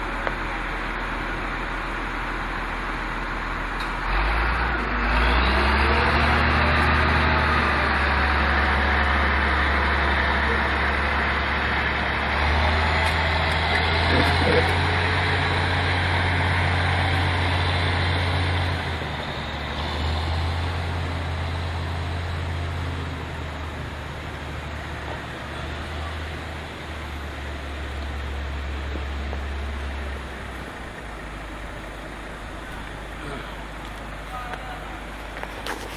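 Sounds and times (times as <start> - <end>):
truck diesel engine under load: 0.0 - 35.9.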